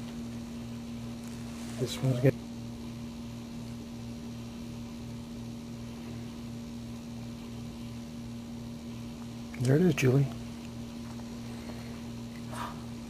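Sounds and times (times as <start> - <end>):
throbbing electrical hum: 0.0 - 13.0.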